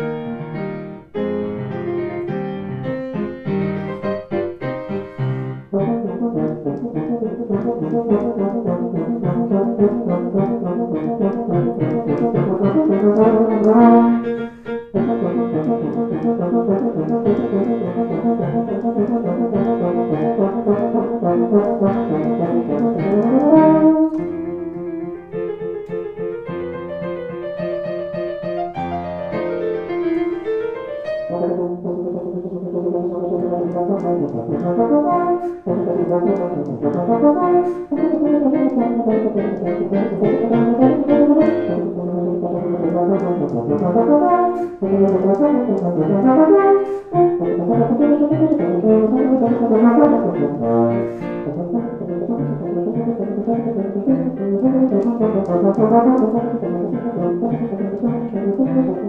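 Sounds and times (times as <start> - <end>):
euphonium melody: 0.0 - 59.0
piano accompaniment: 0.0 - 59.0.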